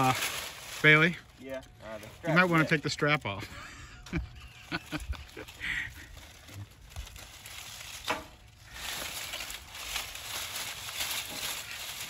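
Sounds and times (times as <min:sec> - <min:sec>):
dry branches rustling and crackling: 0:00.0 - 0:12.0.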